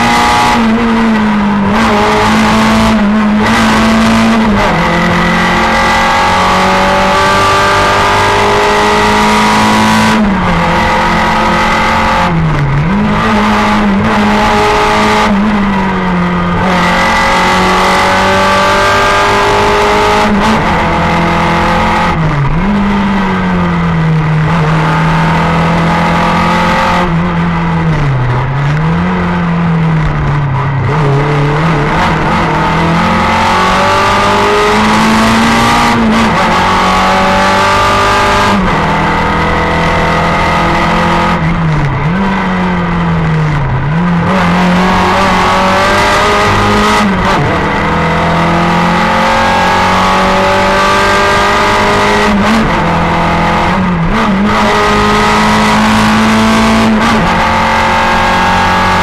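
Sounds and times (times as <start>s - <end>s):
rally car engine revving hard: 0.0s - 59.0s.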